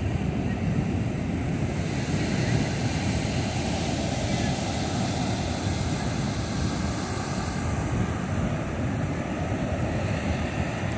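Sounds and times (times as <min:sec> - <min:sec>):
surf breaking on beach: 0:00.0 - 0:10.9
wind rumbling on microphone: 0:00.0 - 0:10.9.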